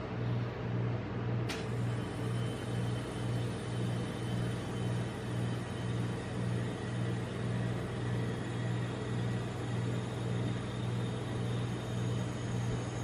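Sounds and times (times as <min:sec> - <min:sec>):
refrigeration machine hum: 0:00.0 - 0:13.0.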